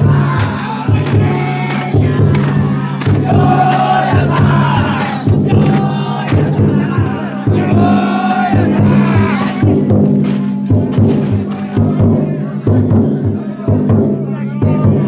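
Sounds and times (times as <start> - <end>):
crowd chanting in unison: 0.0 - 10.2, 11.0 - 15.0
taiko drum beating: 0.0 - 15.0.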